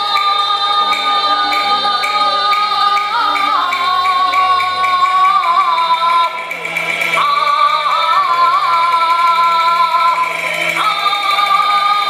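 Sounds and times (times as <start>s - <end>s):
opera singing with ornamental turns: 0.0s - 12.0s
sustained instrumental accompaniment: 0.0s - 12.0s.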